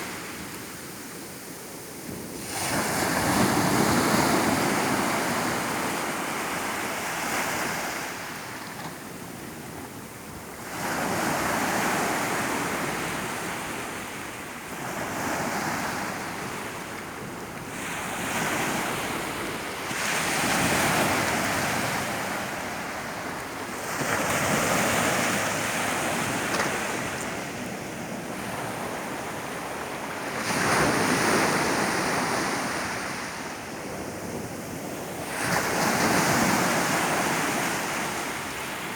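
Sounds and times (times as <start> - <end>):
sea waves breaking on beach: 0.0 - 9.7, 10.3 - 38.9.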